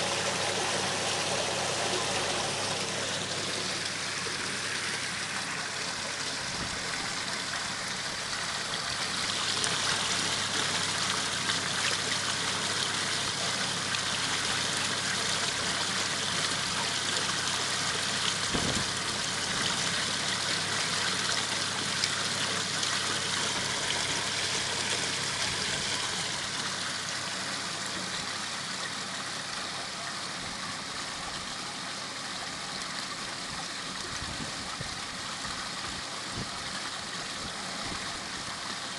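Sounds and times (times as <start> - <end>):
water splashing and trickling: 0.0 - 38.9.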